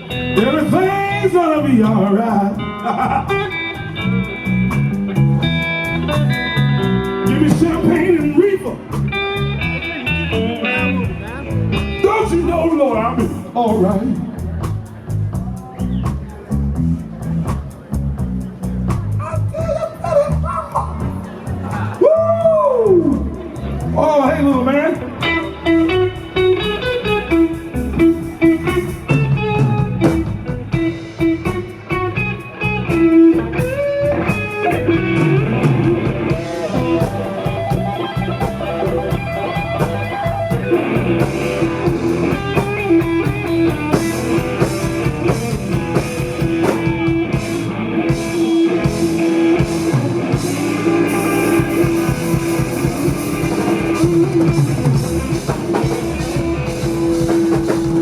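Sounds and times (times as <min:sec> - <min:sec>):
drum kit: 0:00.0 - 0:58.0
electric guitar lead: 0:00.0 - 0:58.0.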